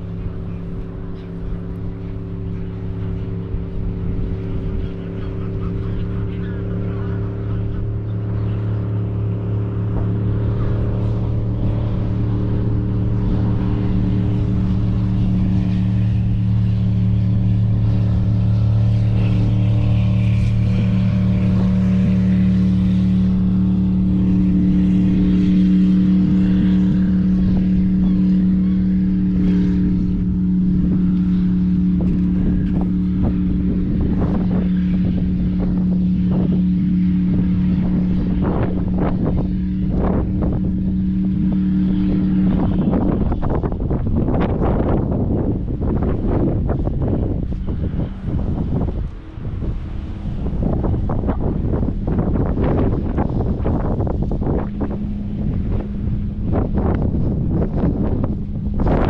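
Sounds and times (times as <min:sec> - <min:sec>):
low engine drone: 0:00.0 - 0:59.0.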